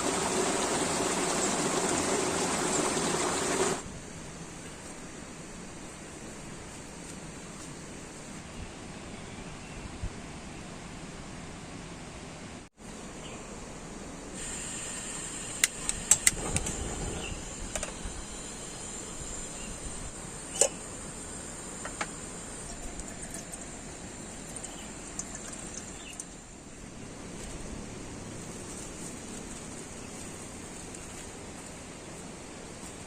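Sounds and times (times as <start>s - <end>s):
rain hiss: 0.0s - 8.3s, 14.3s - 33.0s.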